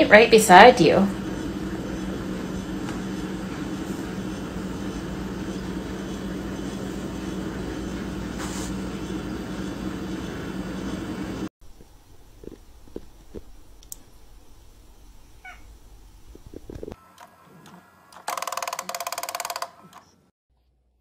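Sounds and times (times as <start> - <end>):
low machine hum: 0.0 - 18.2.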